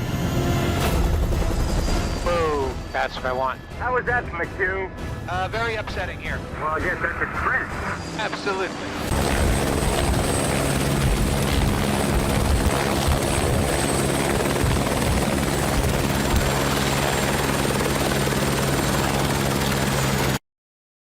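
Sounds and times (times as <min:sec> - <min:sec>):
high turbine whine: 0:00.0 - 0:04.1, 0:05.0 - 0:20.4
helicopter rotor and engine: 0:00.0 - 0:20.4.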